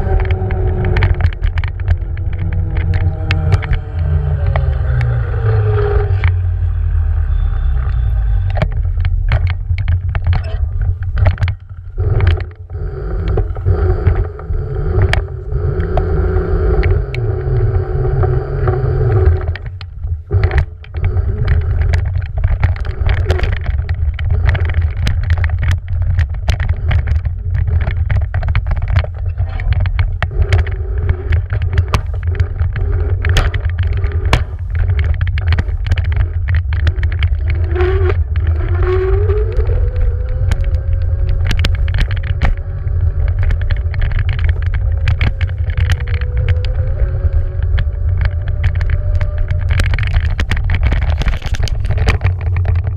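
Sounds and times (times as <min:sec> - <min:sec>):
scooter clicks and knocks: 0:00.0 - 0:06.9, 0:07.8 - 0:52.9
wind buffeting microphone: 0:08.4 - 0:52.9.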